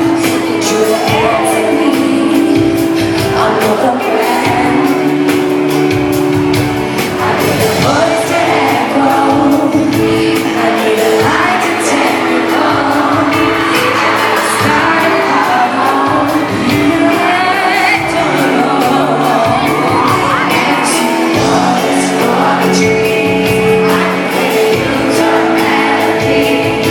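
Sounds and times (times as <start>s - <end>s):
crowd whooping and shouting: 0.0s - 26.9s
keyboard chords: 0.0s - 26.9s
woman singing: 0.0s - 26.9s.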